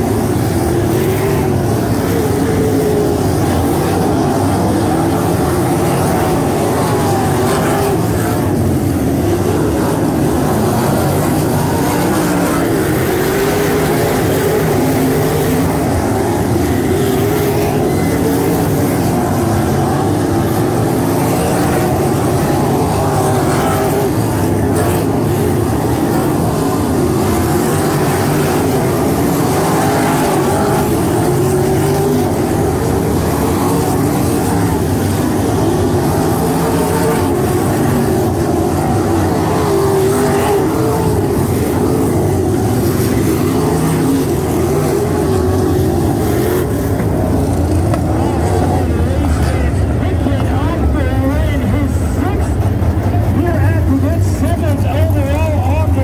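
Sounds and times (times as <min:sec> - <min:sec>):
race car engines roaring: 0:00.0 - 0:56.0.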